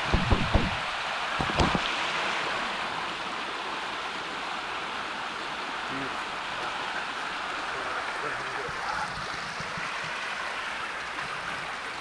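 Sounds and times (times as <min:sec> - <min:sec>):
creek running over rocks: 0:00.0 - 0:12.0.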